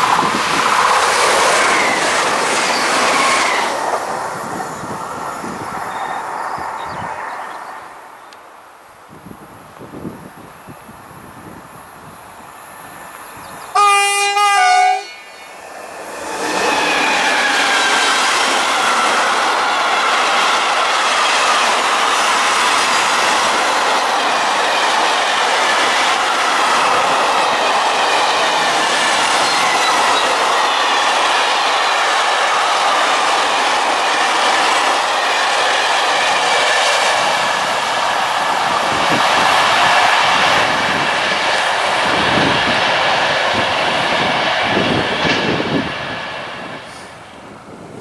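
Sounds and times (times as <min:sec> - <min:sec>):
freight train wheels rushing: 0:00.0 - 0:08.2, 0:09.1 - 0:48.0.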